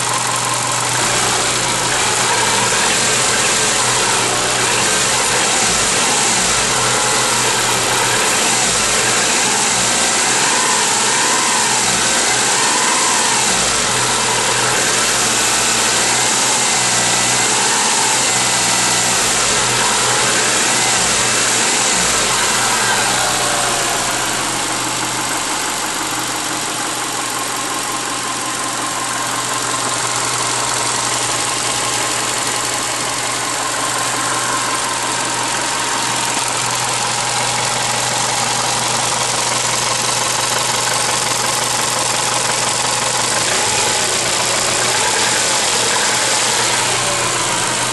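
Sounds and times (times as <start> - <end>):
car engine running: 0.0 - 47.9
engine knock: 0.0 - 47.9.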